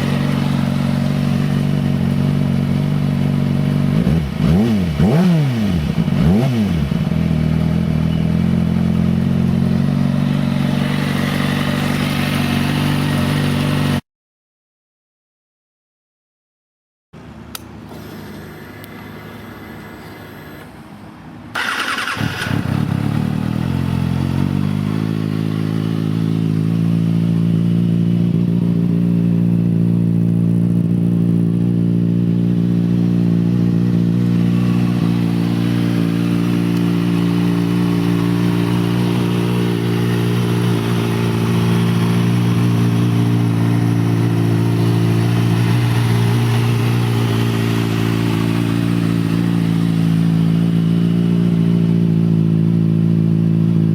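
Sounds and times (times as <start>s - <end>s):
motorcycle engine starting and idling: 0.0s - 14.0s, 17.2s - 53.9s.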